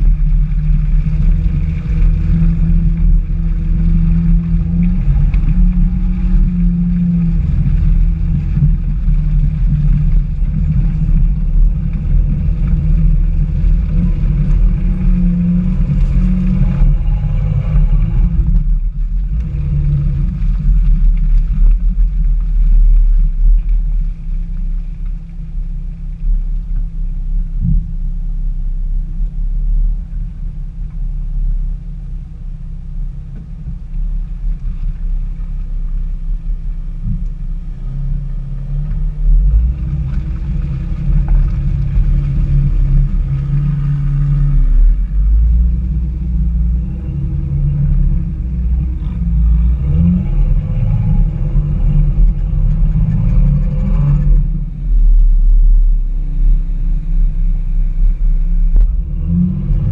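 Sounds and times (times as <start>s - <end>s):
off-road vehicle engine droning: 0.0s - 59.9s.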